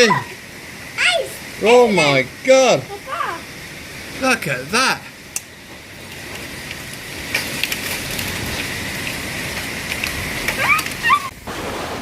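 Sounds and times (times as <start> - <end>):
hailstones ticking: 0.0 - 12.0
heavy rain hissing: 0.0 - 12.0.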